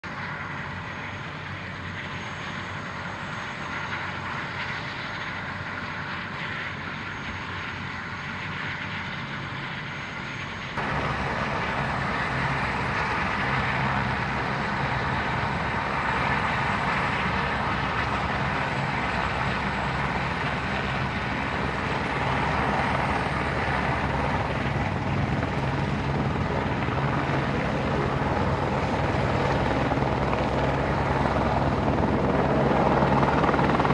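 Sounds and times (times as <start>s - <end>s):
helicopter flying: 0.0s - 33.9s.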